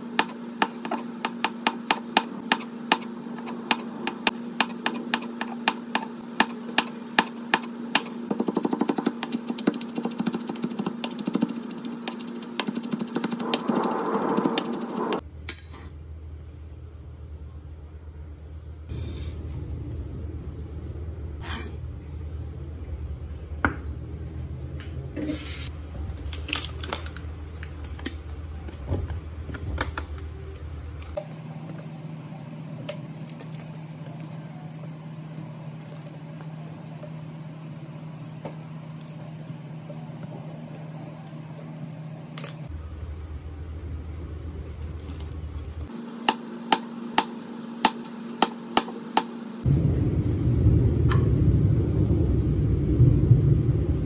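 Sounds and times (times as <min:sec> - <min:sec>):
steady low hum: 0:00.0 - 0:26.4, 0:27.1 - 0:54.0.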